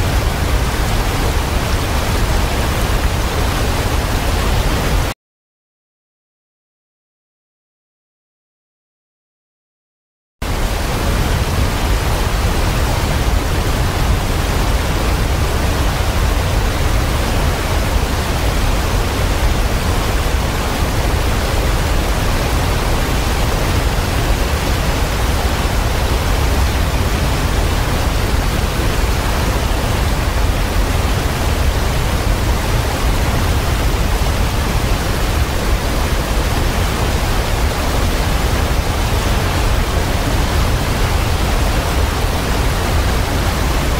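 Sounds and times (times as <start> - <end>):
waterfall roaring: 0.0 - 5.1, 10.4 - 43.9.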